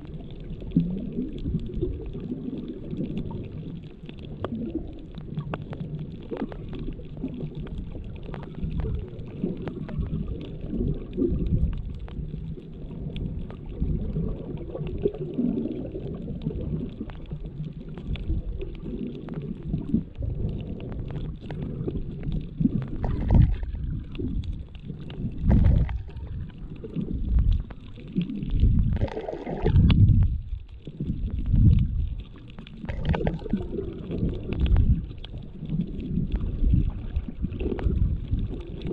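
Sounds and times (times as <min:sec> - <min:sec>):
faint clicks: 0:00.0 - 0:38.9
muffled underwater water rumble: 0:00.0 - 0:38.9.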